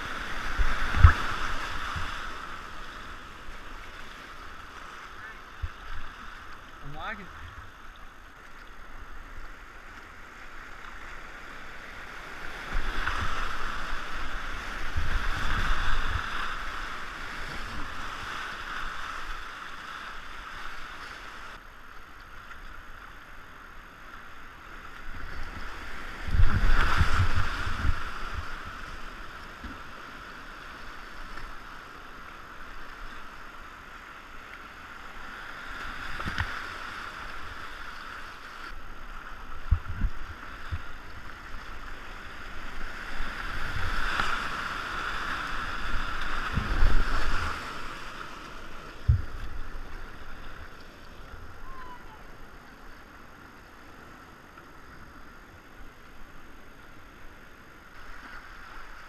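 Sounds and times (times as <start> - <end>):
rapids rushing and splashing: 0.0 - 59.0.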